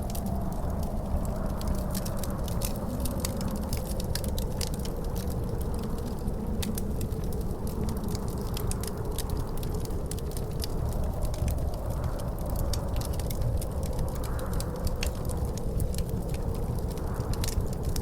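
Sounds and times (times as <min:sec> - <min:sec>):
low wind rumble: 0:00.0 - 0:18.0
wood fire crackling and popping: 0:00.0 - 0:18.0.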